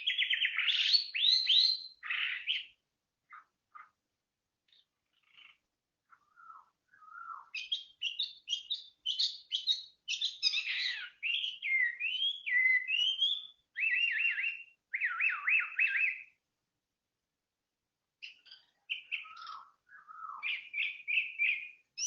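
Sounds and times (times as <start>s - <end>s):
songbird singing: 0.0s - 16.5s, 18.0s - 22.0s.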